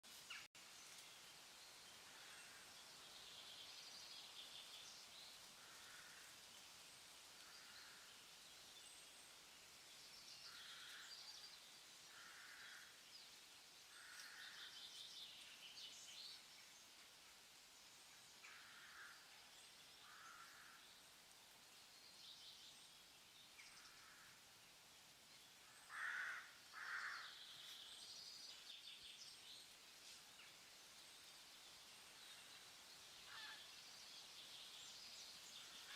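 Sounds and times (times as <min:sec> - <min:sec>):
steady background hiss: 0:00.1 - 0:35.9.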